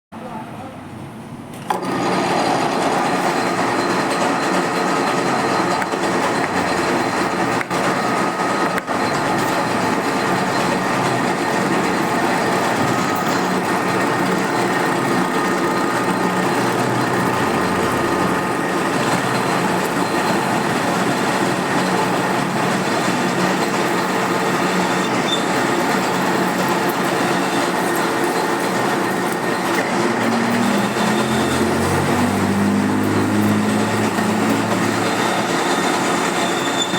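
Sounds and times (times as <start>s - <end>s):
machine tool machining metal: 1.6s - 36.9s.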